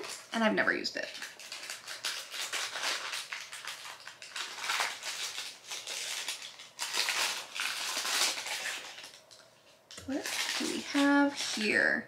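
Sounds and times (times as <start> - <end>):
packaging rustling and crinkling: 0.0 - 11.9.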